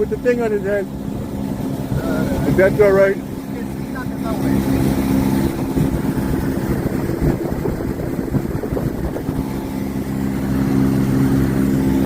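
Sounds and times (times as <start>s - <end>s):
motorboat engine running: 0.0s - 12.0s
rush of wind and water: 0.0s - 12.0s.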